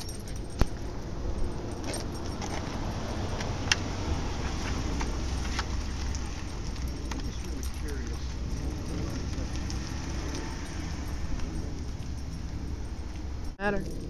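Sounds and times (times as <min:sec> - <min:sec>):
low steady rumble: 0:00.0 - 0:14.0
small metal pieces jingling: 0:00.0 - 0:14.0.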